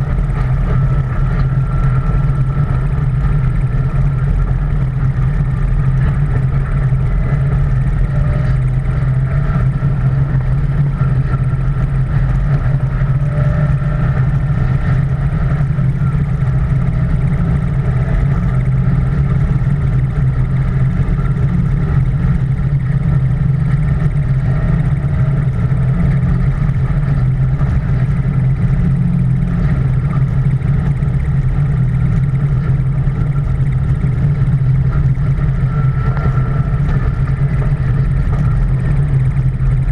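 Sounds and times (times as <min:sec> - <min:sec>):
pickup truck driving on dirt: 0:00.0 - 0:39.9.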